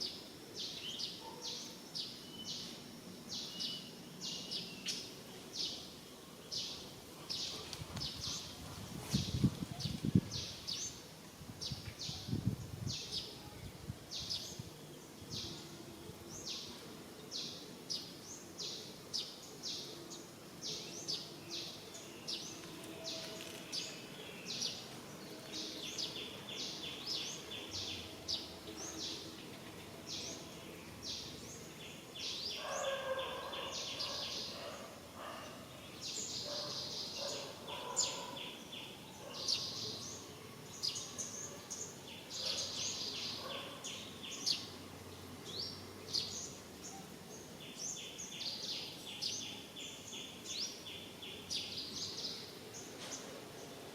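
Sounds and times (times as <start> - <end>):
bird chirping: 0.0 - 11.0, 14.2 - 53.9.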